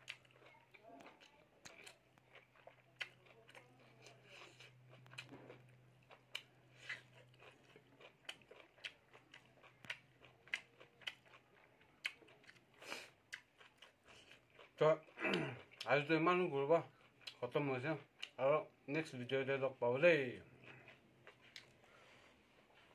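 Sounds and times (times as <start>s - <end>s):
mouth chewing clicks and smacks: 0.0s - 15.9s, 16.9s - 18.4s, 20.5s - 21.8s.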